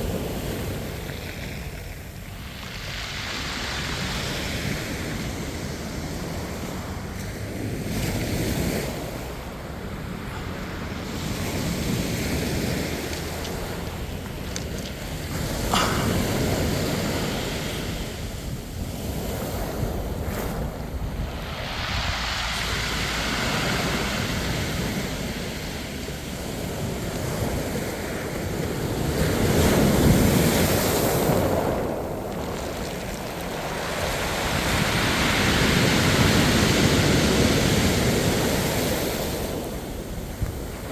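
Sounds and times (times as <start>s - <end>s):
sea waves breaking on shore: 0.0s - 40.9s
wind buffeting microphone: 0.0s - 40.9s.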